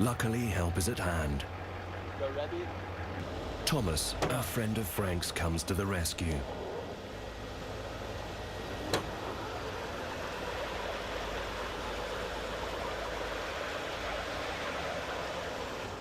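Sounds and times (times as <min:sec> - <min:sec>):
rushing noise: 0:00.0 - 0:16.0
vehicle engine running: 0:00.0 - 0:16.0.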